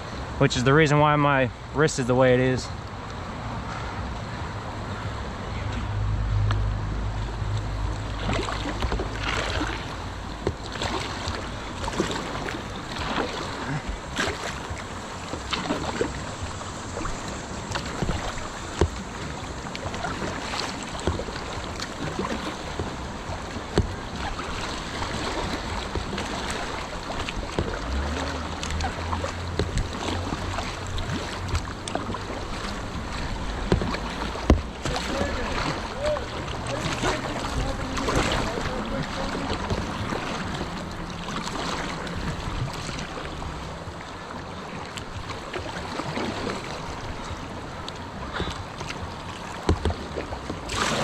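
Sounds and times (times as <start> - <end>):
river water rushing: 0.0 - 51.0
wind rumbling on microphone: 2.7 - 51.0
sharp water splashes: 7.2 - 51.0.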